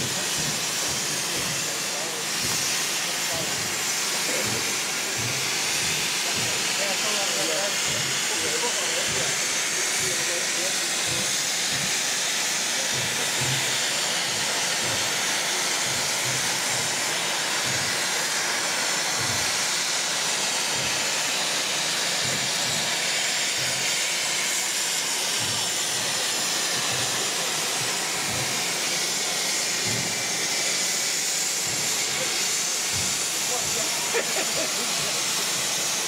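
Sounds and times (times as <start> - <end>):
steam hissing from locomotive: 0.0 - 36.0.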